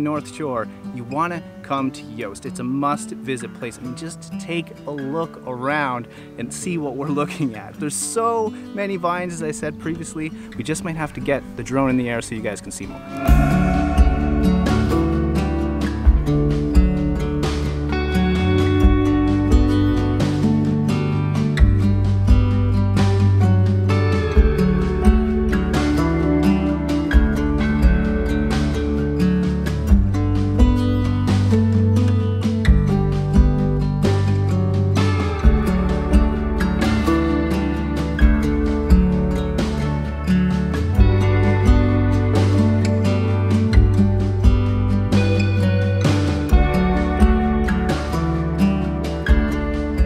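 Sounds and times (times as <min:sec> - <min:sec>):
strummed acoustic guitar music: 0:00.0 - 0:50.0.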